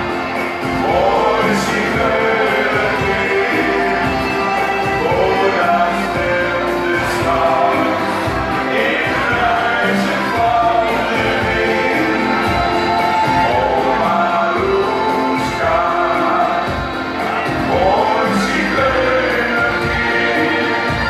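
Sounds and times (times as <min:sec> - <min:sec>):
accordion: 0:00.0 - 0:21.0
drums: 0:00.0 - 0:21.0
man singing into a microphone: 0:00.8 - 0:21.0.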